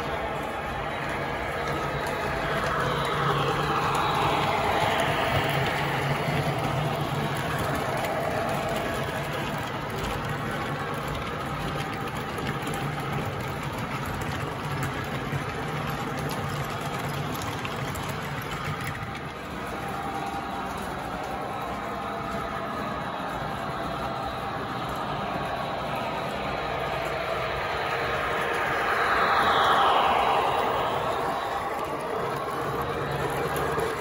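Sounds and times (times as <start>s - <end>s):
model train motor hum: 0.0s - 34.0s.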